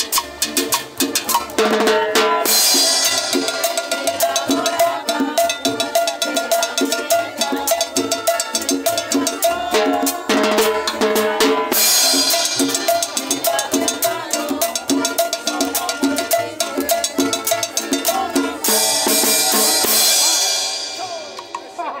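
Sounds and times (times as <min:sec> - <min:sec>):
cumbia band playing: 0:00.0 - 0:22.0
drum and cowbell beat: 0:00.0 - 0:22.0.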